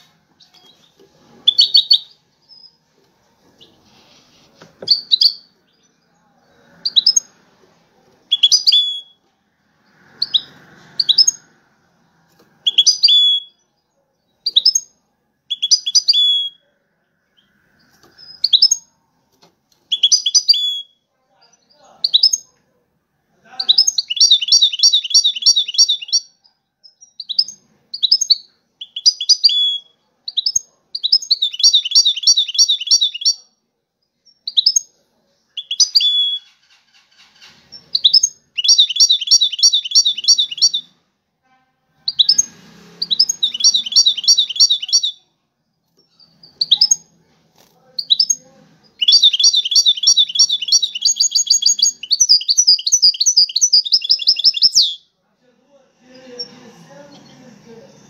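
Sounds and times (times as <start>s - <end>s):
bird chirps: 0.0s - 2.9s, 4.8s - 7.4s, 8.3s - 9.2s, 9.8s - 11.6s, 12.6s - 18.9s, 19.9s - 22.6s, 23.5s - 41.0s, 42.1s - 47.1s, 48.0s - 55.2s.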